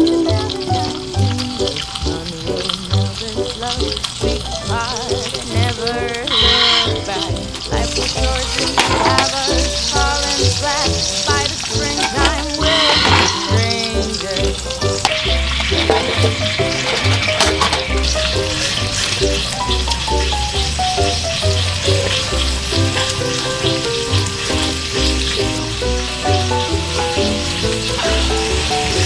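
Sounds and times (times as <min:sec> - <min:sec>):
meat sizzling in a frying pan: 0:00.0 - 0:29.0.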